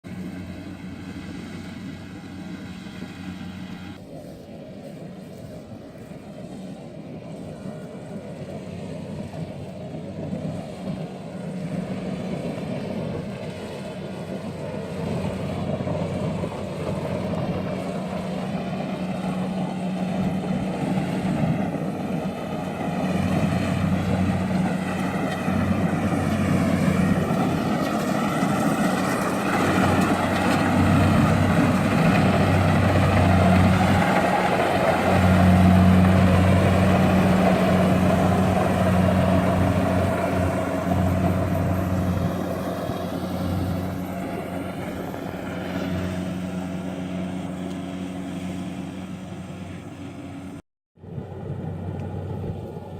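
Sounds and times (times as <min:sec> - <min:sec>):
heavy farm machine engine humming: 0:00.0 - 0:52.9.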